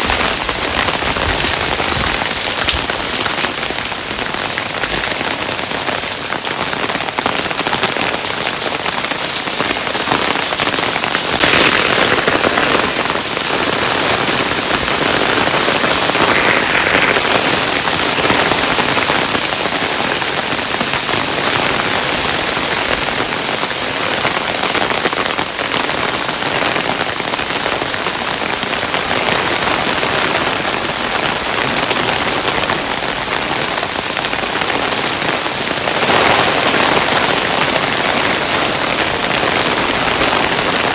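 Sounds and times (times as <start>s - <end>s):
hailstones pattering on hard surface: 0.0s - 40.9s.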